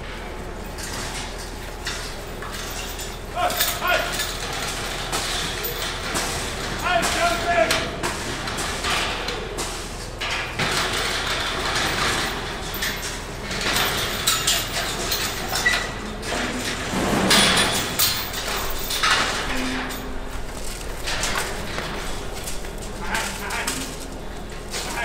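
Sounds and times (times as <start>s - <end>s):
metal gates clanking and rattling: 0.0s - 25.0s.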